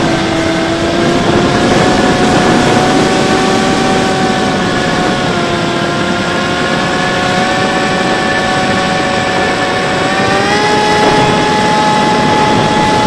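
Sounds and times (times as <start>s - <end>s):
electric motor and propeller whining: 0.0s - 13.0s
rushing air: 0.0s - 13.0s.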